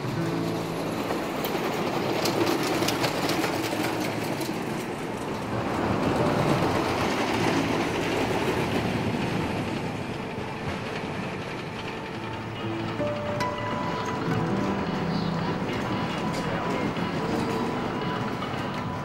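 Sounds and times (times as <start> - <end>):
roller coaster rumbling on wooden track: 0.0 - 19.0
sharp clacks: 0.0 - 19.0.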